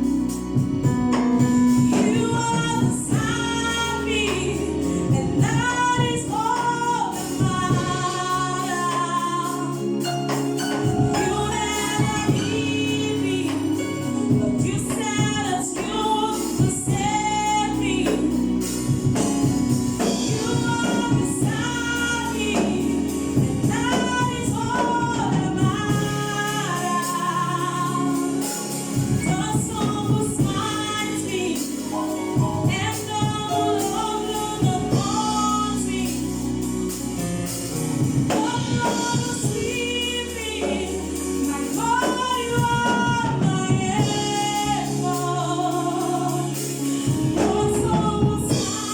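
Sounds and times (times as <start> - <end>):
gospel choir singing: 0.0 - 48.9
instrumental accompaniment: 0.0 - 48.9
steady bass line: 0.0 - 48.9.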